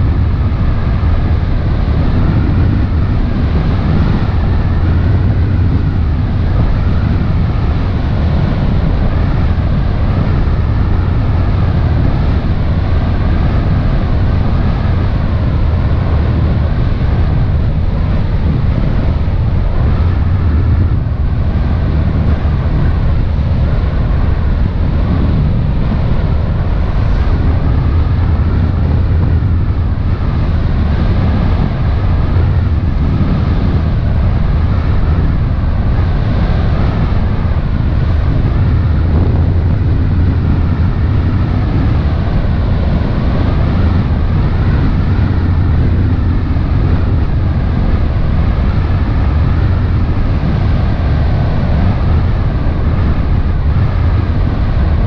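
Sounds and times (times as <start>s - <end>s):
boat engine drone: 0.0s - 55.0s
wind buffeting microphone: 0.0s - 55.0s.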